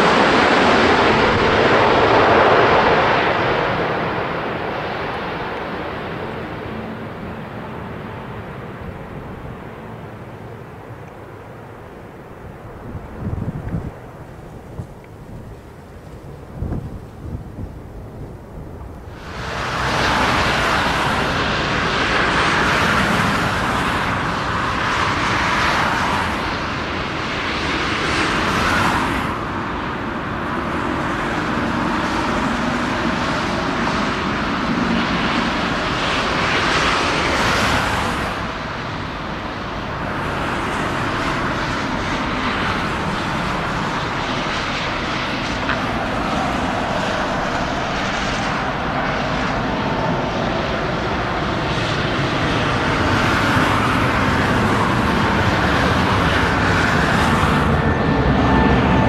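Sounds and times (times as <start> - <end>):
jet airliner roaring overhead: 0.0 - 59.0.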